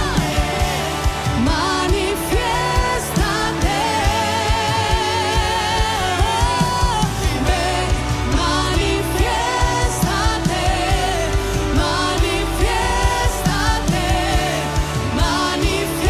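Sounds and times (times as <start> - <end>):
band with drum beat and bass: 0.0 - 16.0
woman singing with vibrato: 0.0 - 16.0.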